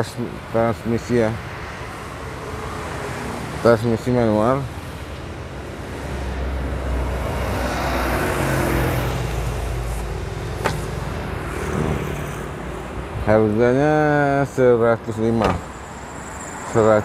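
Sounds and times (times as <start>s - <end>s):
vehicle rumble passing: 1.4s - 17.0s.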